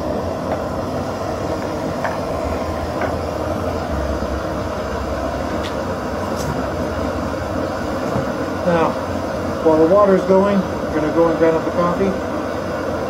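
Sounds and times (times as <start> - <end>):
camping stove burner hissing: 0.0 - 13.0.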